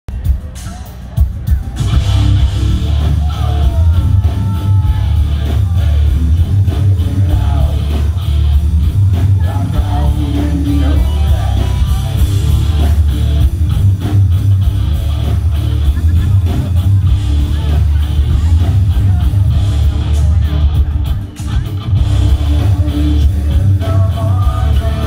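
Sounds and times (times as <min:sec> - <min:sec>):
bass: 0:00.0 - 0:25.0
drums: 0:00.0 - 0:25.0
live rock band playing: 0:00.1 - 0:25.0
electric guitar: 0:01.6 - 0:25.0.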